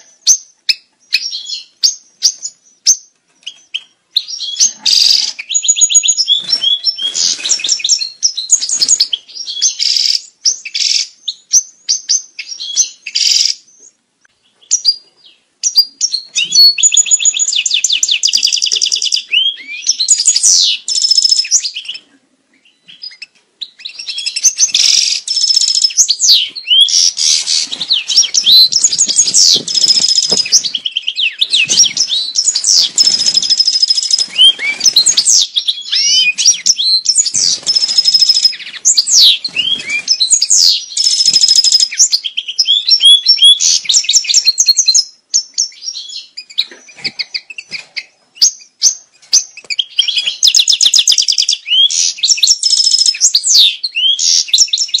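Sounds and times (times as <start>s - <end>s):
finch singing: 0.0s - 55.0s.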